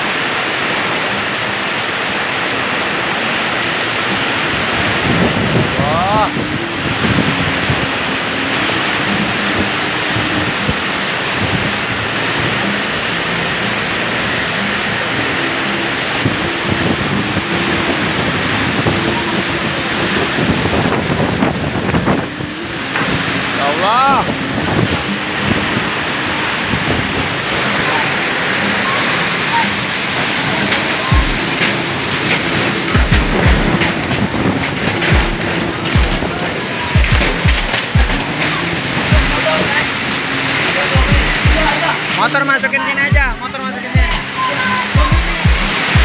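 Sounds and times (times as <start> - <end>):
heavy rain: 0.0 - 46.0
strong wind: 0.0 - 46.0.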